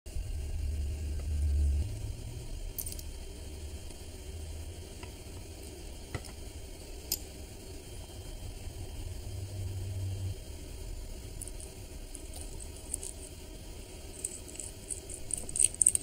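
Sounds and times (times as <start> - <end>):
steady low hum and hiss: 0.1 - 16.0.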